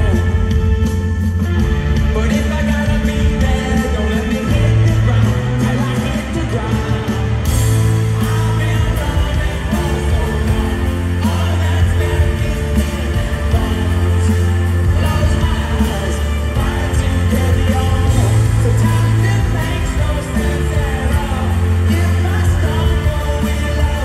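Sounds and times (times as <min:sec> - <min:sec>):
bass line: 0:00.0 - 0:24.0
person singing: 0:00.0 - 0:24.0.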